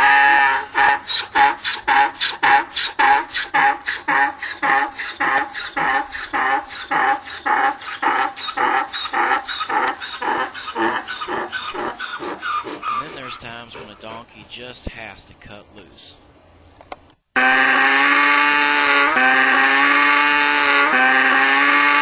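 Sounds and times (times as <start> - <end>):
donkey braying: 0.0 - 14.8, 17.4 - 22.0.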